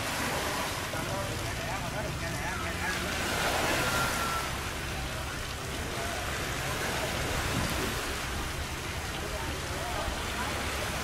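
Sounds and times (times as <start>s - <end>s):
boat engine drone: 0.0s - 11.0s
river water rushing: 0.0s - 11.0s.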